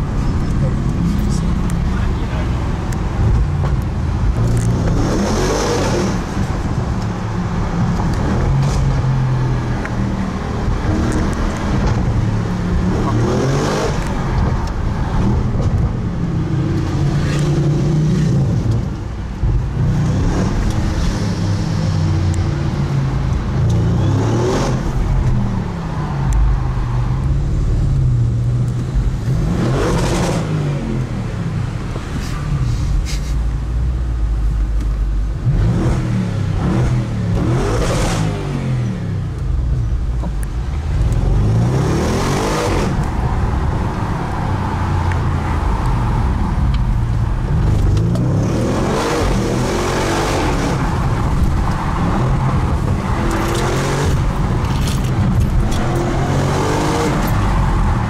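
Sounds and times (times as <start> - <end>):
car engine accelerating and shifting: 0.0 - 58.0
passing traffic: 0.0 - 58.0.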